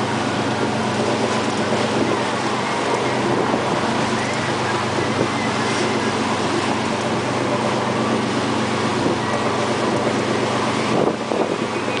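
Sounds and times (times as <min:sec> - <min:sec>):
boat engine humming: 0:00.0 - 0:12.0
churning wake water: 0:00.0 - 0:12.0.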